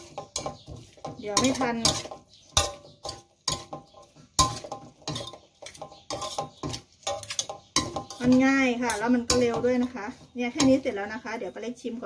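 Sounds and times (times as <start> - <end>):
spoon and spatula clinking in wok: 0.0 - 11.0.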